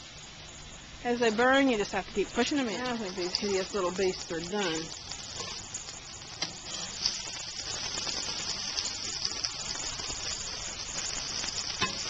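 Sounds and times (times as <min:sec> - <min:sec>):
meat sizzling on grill pan: 0:00.0 - 0:12.0.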